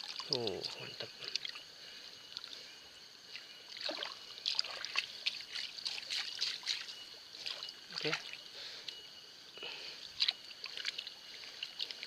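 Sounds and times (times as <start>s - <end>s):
water splashing and sloshing: 0.0s - 1.6s, 2.3s - 8.8s, 10.0s - 12.0s
trickle of running water: 0.0s - 12.0s.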